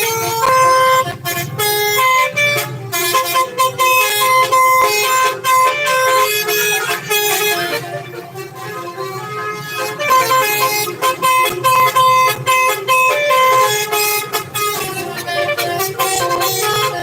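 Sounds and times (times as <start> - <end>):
bus multi-tone horn tune: 0.0 - 17.0.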